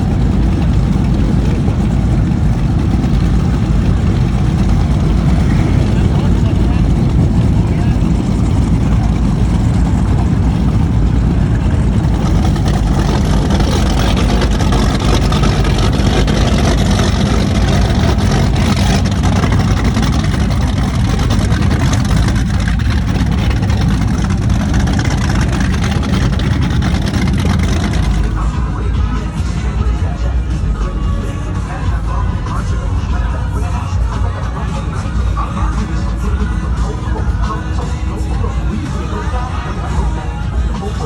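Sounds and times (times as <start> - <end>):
powerboat engines running loud: 0.0 - 41.0.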